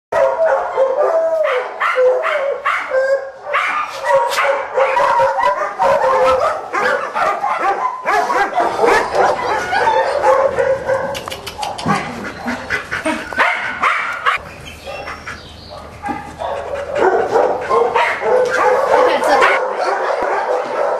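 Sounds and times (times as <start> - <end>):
dogs barking and yelping: 0.1 - 20.9.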